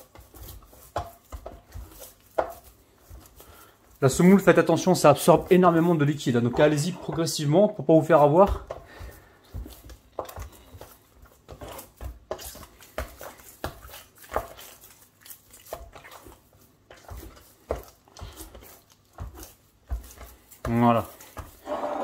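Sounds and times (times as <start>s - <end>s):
dough kneaded in wooden bowl: 0.0s - 22.0s.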